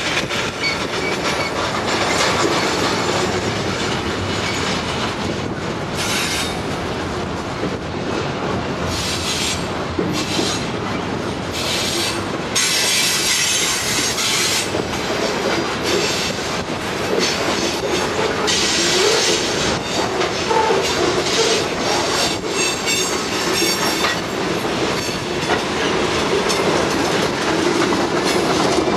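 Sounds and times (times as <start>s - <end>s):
freight train rail noise: 0.0s - 28.9s.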